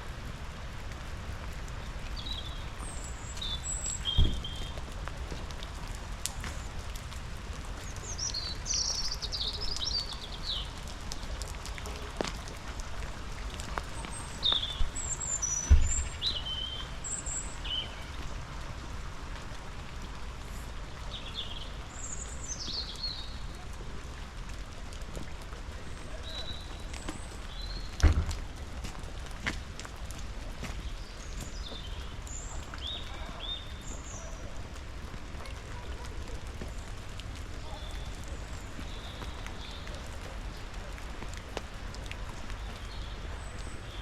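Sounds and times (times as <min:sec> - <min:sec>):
rain pattering: 0:00.0 - 0:44.0
water drips: 0:00.0 - 0:44.0
songbirds chirping: 0:01.6 - 0:07.0, 0:07.6 - 0:19.0, 0:20.6 - 0:24.2, 0:25.6 - 0:28.6, 0:30.4 - 0:44.0.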